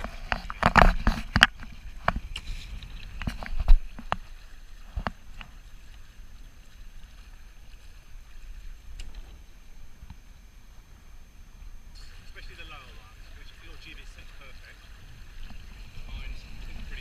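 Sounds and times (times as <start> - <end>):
water and wind rushing: 0.0 - 17.0.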